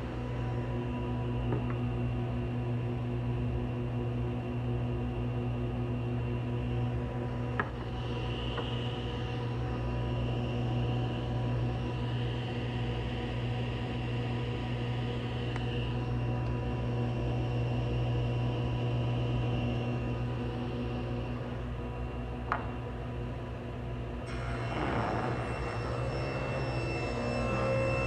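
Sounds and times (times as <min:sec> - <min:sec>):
high machine whine: 0:00.0 - 0:28.0
woodworking machine humming: 0:03.8 - 0:22.7, 0:24.2 - 0:28.0.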